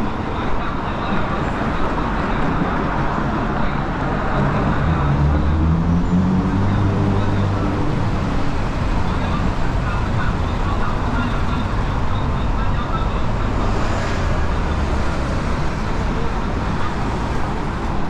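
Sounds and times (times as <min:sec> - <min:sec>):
indistinct voices: 0:00.0 - 0:18.0
traffic noise: 0:00.0 - 0:18.0.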